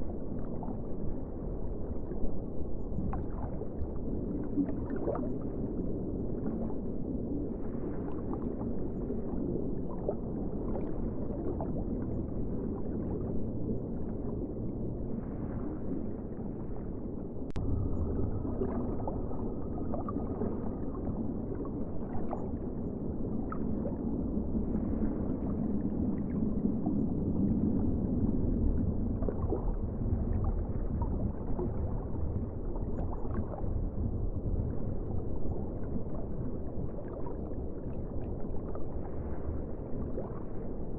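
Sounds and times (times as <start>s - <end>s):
muffled ocean water wash: 0.0s - 40.9s.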